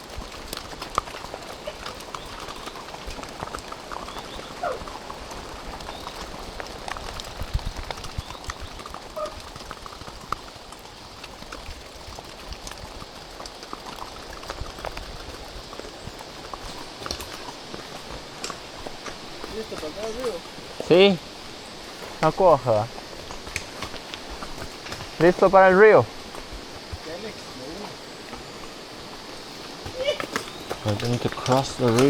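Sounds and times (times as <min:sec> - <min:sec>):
horse hooves clip-clopping: 0:00.0 - 0:32.0.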